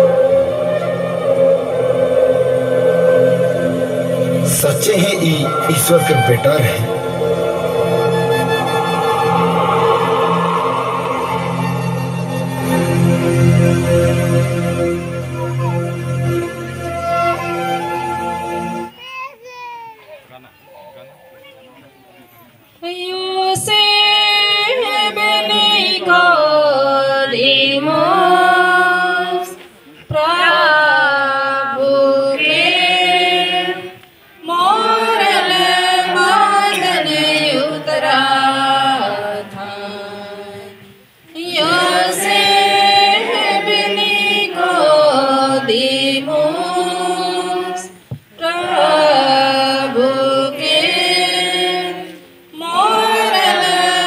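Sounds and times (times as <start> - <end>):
voices singing a hymn: 0.0 - 15.5, 22.8 - 54.0.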